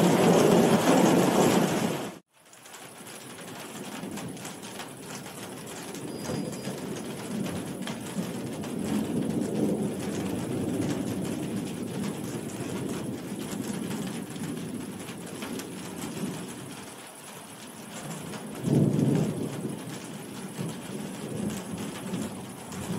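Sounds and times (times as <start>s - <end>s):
low rolling thunder: 0.0s - 2.2s, 3.5s - 22.9s
heavy rain: 0.0s - 22.9s
raindrops ticking: 0.0s - 22.9s.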